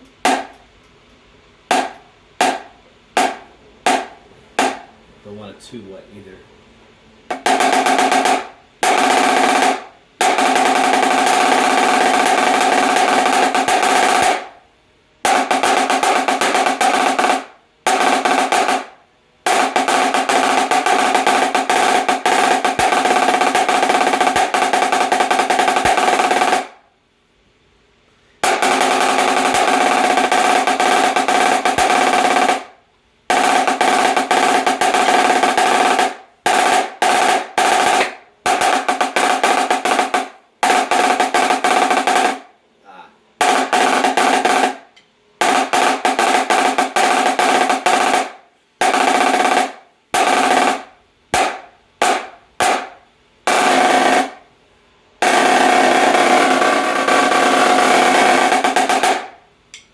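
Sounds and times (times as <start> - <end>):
snare drum rolls: 0.0 - 0.6, 1.7 - 4.9, 7.3 - 14.6, 15.2 - 26.8, 28.4 - 42.5, 43.4 - 54.4, 55.2 - 59.4.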